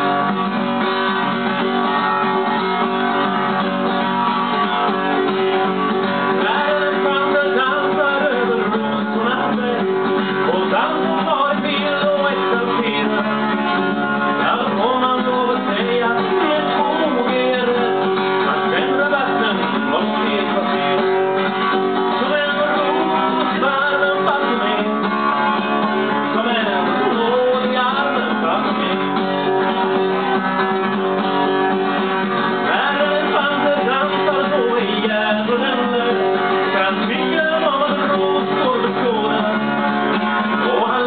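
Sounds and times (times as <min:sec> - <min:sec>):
man singing: 0:00.0 - 0:30.4, 0:31.5 - 0:41.0
blues acoustic guitar: 0:00.0 - 0:41.0.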